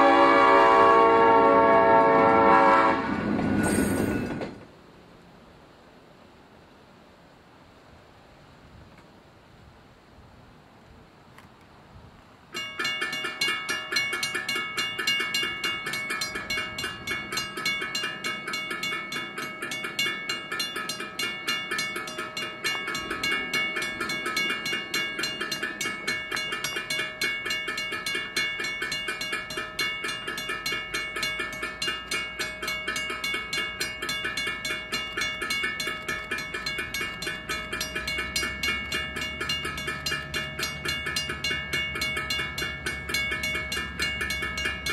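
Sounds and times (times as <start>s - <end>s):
railroad crossing bell ringing: 0.0s - 4.6s, 12.5s - 44.9s
low train rumble: 0.0s - 44.9s.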